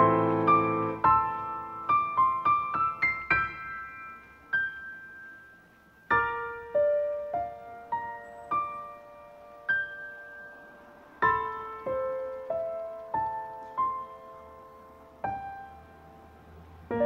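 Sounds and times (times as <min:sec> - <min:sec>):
gentle solo piano melody: 0:00.0 - 0:17.0.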